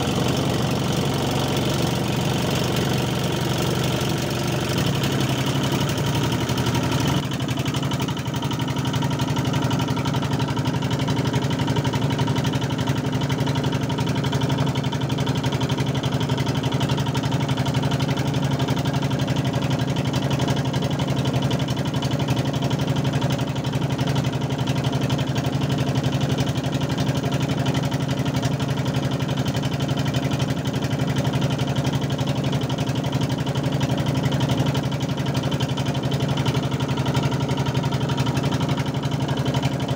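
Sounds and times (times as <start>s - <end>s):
boat engine running steadily: 0.0s - 39.9s.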